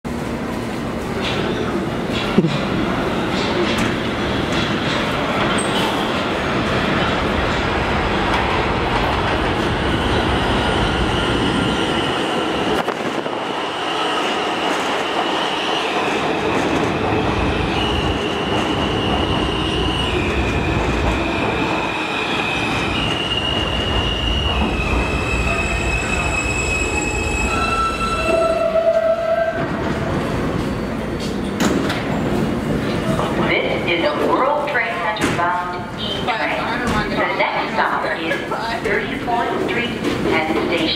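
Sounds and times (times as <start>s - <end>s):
train wheels rumbling on rails: 0.1s - 40.9s.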